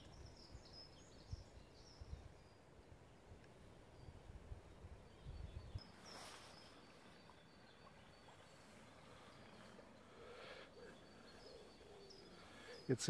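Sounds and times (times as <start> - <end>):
faint bird chirps: 0.0 - 13.0
faint river ambience: 0.0 - 13.0.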